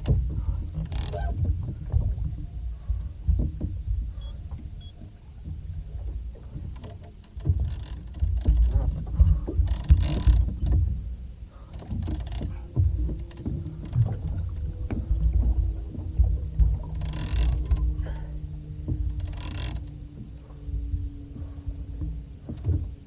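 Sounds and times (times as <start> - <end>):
boat low rumble: 0.0 - 23.0
faint steady hum: 0.0 - 23.0.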